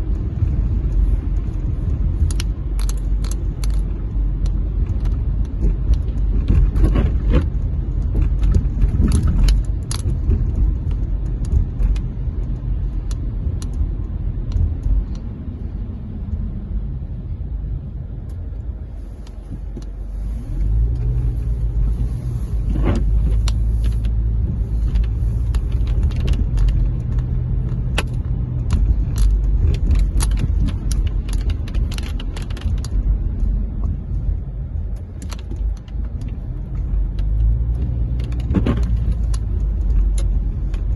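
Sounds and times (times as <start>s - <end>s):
small clicks and rattles: 0.0s - 15.3s, 18.2s - 40.9s
car road and engine rumble: 0.0s - 40.9s.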